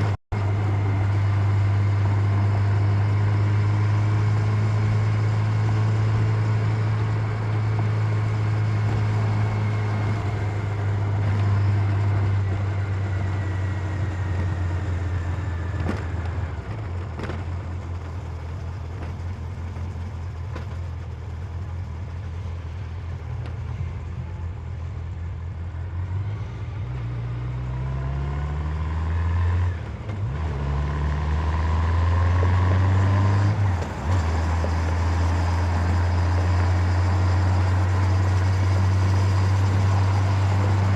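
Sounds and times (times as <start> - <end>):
motorcycle engine running: 0.0 - 27.0, 29.5 - 40.9.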